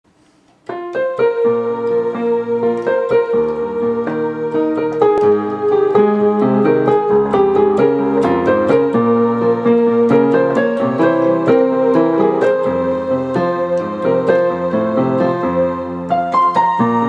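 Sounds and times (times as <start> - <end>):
electric piano melody: 0.6 - 17.0.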